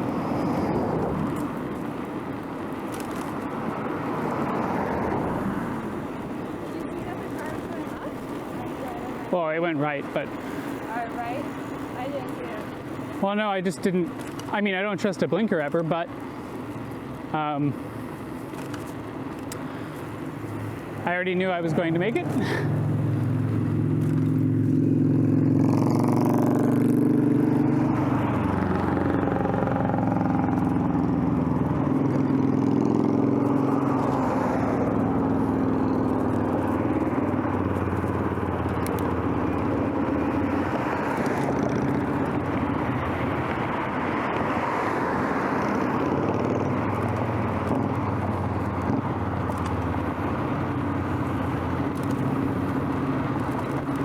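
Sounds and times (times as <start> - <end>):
car engines running: 0.0 - 54.0
traffic and tyre noise: 0.0 - 54.0.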